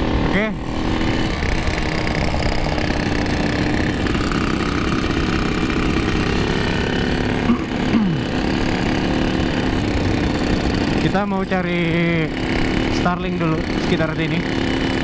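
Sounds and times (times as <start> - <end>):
motorcycle engines droning: 0.0 - 15.0
wind and road noise: 0.0 - 15.0
engine throttling off: 0.6 - 15.0.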